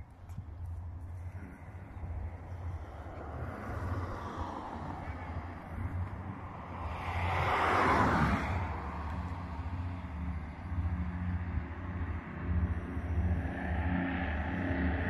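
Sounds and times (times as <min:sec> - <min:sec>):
distant aircraft engines droning: 0:00.0 - 0:15.0.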